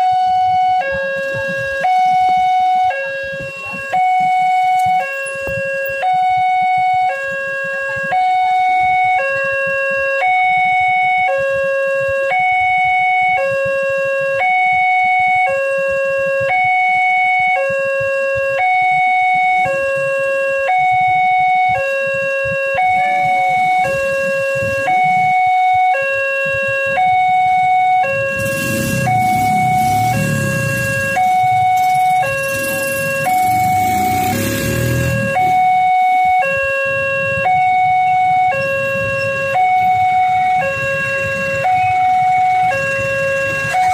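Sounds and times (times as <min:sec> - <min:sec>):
level crossing two-tone alarm: 0:00.0 - 0:43.9.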